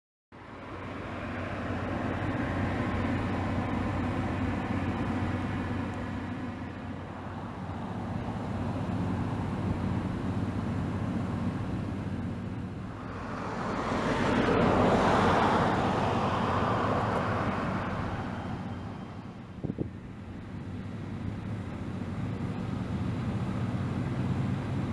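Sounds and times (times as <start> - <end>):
jet aircraft taxiing: 0.8 - 24.9.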